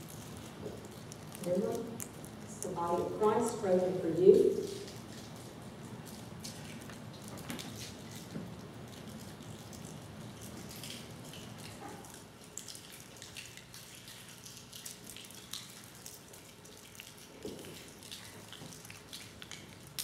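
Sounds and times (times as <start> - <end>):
crackers crinkling: 0.0 - 3.1, 4.5 - 20.0
low steady hum: 0.0 - 20.0.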